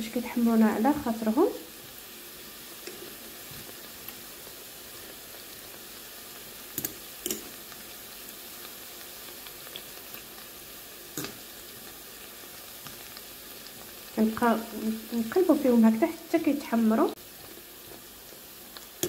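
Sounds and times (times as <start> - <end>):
pastries sizzling in hot oil: 0.0 - 19.0.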